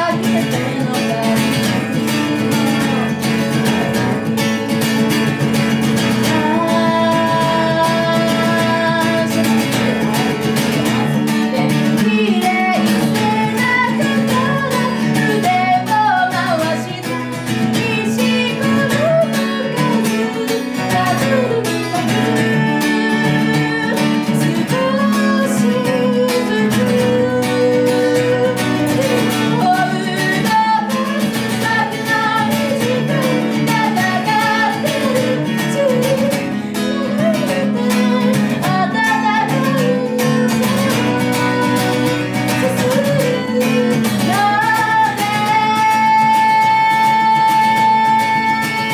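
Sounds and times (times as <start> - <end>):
acoustic guitar: 0.0 - 48.9
woman singing: 0.0 - 48.9.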